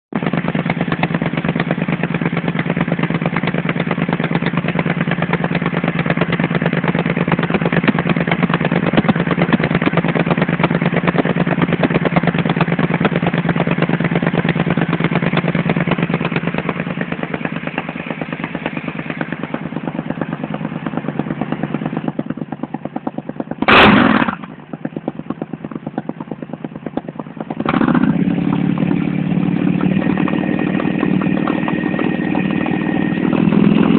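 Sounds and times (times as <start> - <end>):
motorcycle idling: 0.1 - 33.9.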